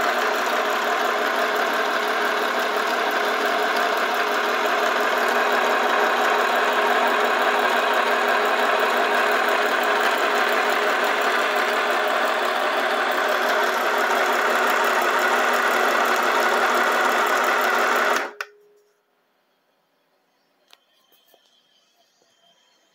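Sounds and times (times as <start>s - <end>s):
sewing machine running: 0.0s - 18.4s.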